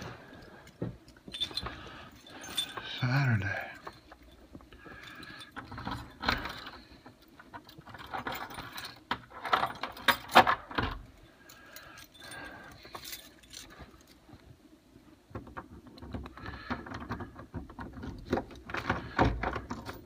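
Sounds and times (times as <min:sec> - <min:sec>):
handling rustling and clinking: 0:00.0 - 0:20.0.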